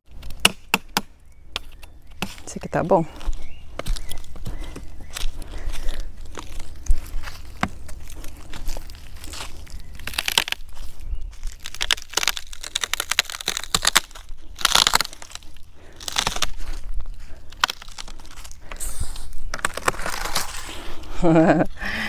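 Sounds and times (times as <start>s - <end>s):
dry leaves and twigs crunching: 0.1s - 21.8s
branch dragged over dry ground: 2.2s - 21.2s.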